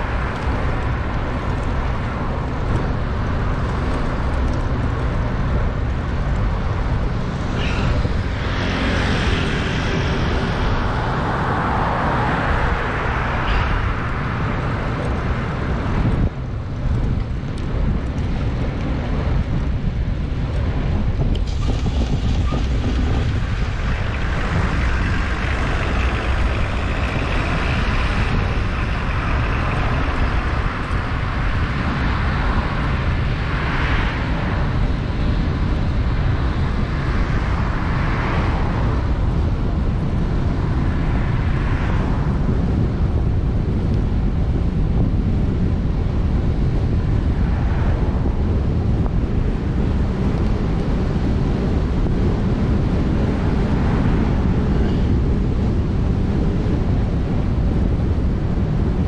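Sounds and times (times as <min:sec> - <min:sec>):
road traffic passing: 0:00.0 - 0:59.0
wind buffeting microphone: 0:00.0 - 0:59.0.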